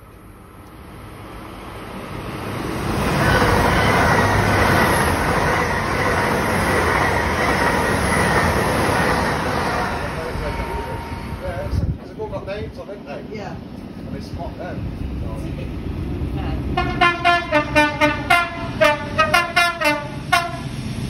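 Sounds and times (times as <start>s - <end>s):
train wheels rushing on rail: 0.0s - 21.0s.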